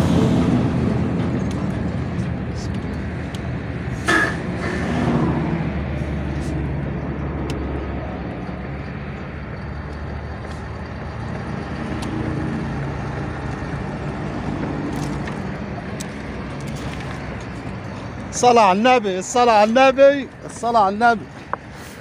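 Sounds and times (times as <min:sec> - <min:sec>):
low engine hum: 0:00.0 - 0:22.0
passing motor traffic rumble: 0:00.0 - 0:22.0.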